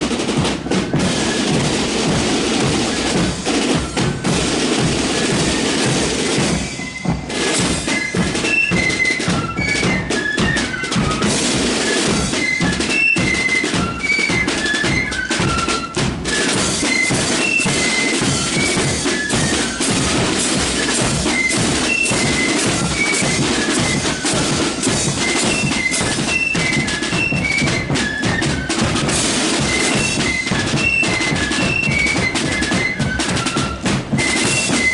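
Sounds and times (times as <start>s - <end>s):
flutes playing melody: 0.0s - 34.9s
snare and bass drums: 0.0s - 34.9s.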